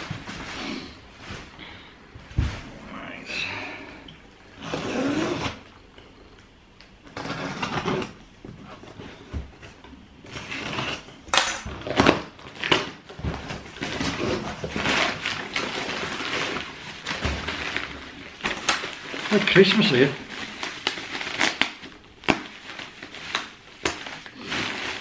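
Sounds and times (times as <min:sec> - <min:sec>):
packaging rustling and crinkling: 0:00.0 - 0:03.1, 0:04.5 - 0:25.0.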